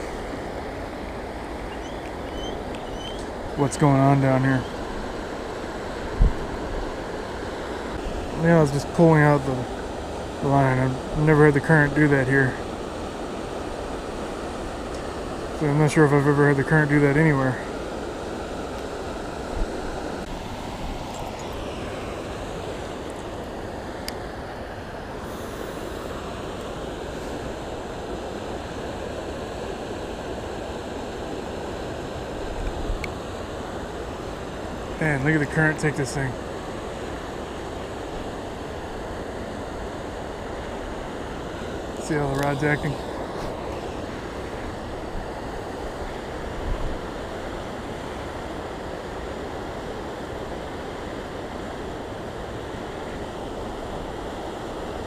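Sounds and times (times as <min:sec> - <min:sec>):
river floodwater rushing: 0:00.0 - 0:55.0.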